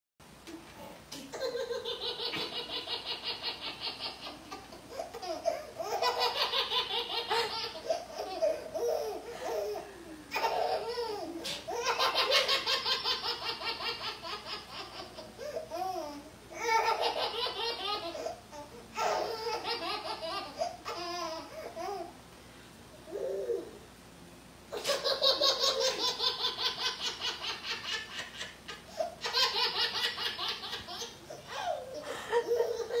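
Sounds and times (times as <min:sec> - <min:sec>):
baby laughing: 0:01.3 - 0:22.1, 0:24.7 - 0:33.0.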